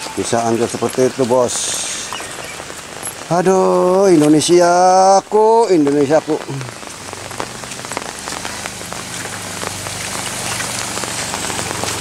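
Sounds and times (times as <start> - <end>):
close raindrop hits ticking: 0.0 - 12.0
steady rain on wet pavement: 0.0 - 12.0.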